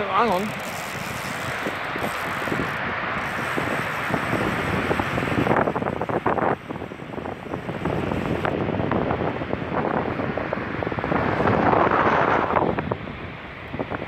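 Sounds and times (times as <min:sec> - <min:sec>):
steady rushing noise: 0:00.0 - 0:14.0
wind buffeting microphone: 0:00.0 - 0:14.0.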